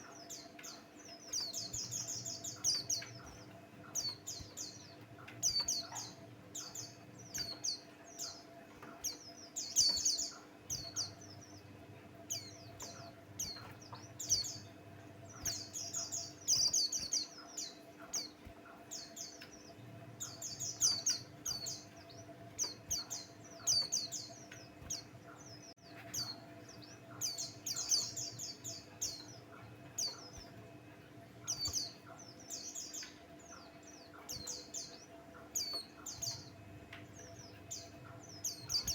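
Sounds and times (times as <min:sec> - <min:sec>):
bird chattering song: 0:00.0 - 0:38.9
faint steady hum: 0:00.0 - 0:38.9.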